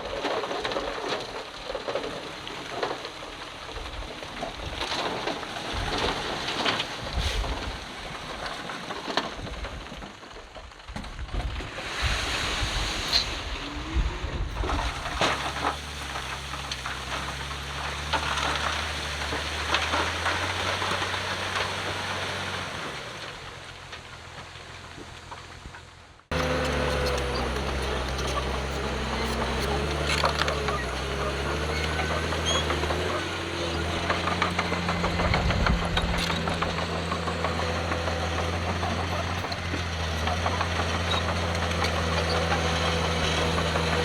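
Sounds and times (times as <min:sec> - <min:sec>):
diesel engine running: 0:00.0 - 0:08.2, 0:13.3 - 0:44.0
rocks rattling and tumbling: 0:00.0 - 0:44.0.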